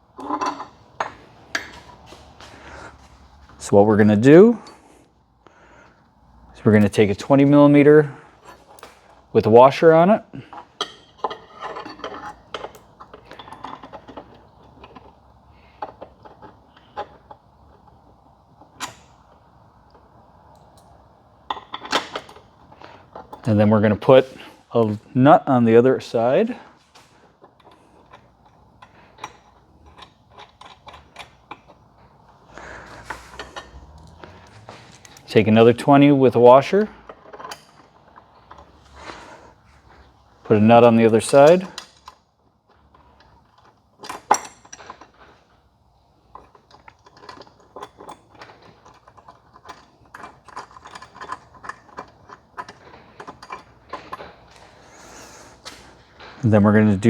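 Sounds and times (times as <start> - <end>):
metal bolt and nut clinking: 0.1 - 4.9, 6.7 - 56.5.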